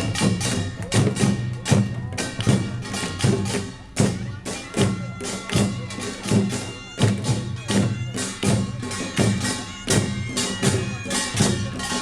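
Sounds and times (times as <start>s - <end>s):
drums in driving rhythm: 0.0s - 12.0s
small gongs clanging: 0.0s - 12.0s.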